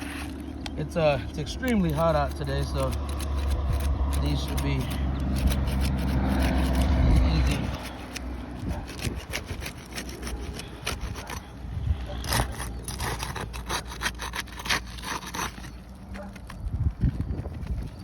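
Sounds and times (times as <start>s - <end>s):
shingles scraping and crackling: 0.0s - 18.0s.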